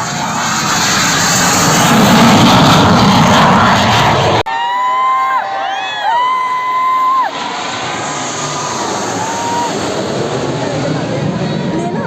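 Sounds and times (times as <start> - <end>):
jet aircraft roaring past: 0.0 - 12.0.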